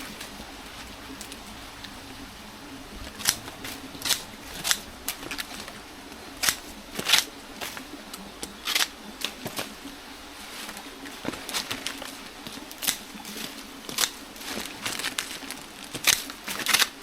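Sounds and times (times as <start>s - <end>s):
scissors snipping leaves: 0.0s - 9.9s, 10.5s - 17.0s.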